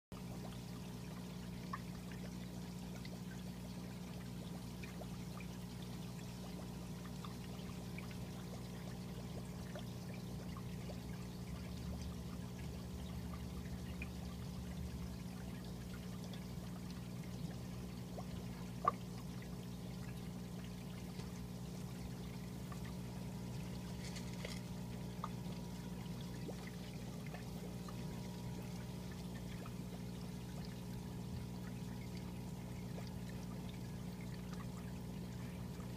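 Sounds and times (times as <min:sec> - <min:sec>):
aquarium water pouring and trickling: 0:00.1 - 0:35.9
steady low hum: 0:00.2 - 0:35.9.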